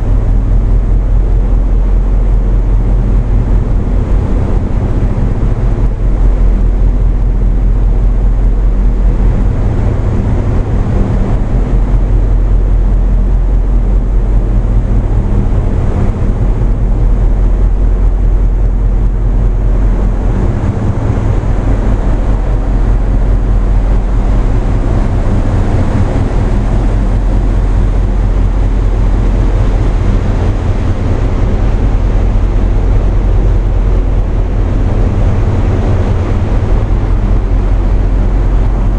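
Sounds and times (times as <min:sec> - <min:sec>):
tugboat engines droning: 0:00.0 - 0:38.9
water rushing: 0:00.0 - 0:38.9
wind noise: 0:00.0 - 0:38.9.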